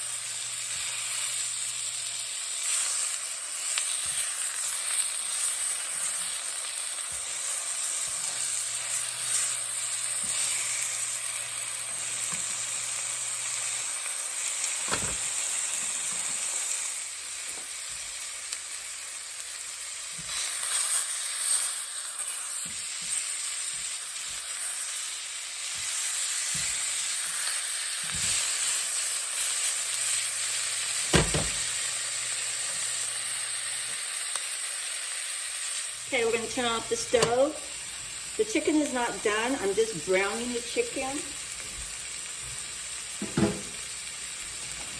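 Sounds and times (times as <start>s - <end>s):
chicken sizzling in oil: 0.0s - 44.9s.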